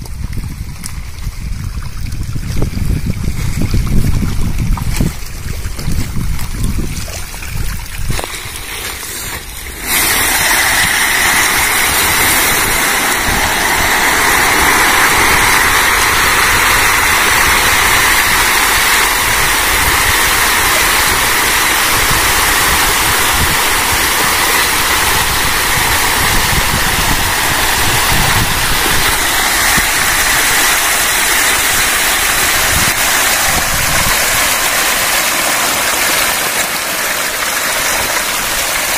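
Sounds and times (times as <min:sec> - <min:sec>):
fish thrashing and splashing: 0:00.5 - 0:38.9.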